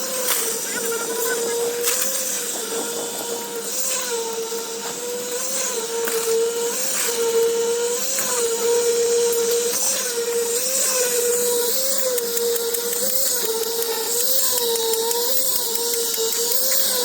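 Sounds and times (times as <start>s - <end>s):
construction machine motor whining: 0.0s - 17.0s.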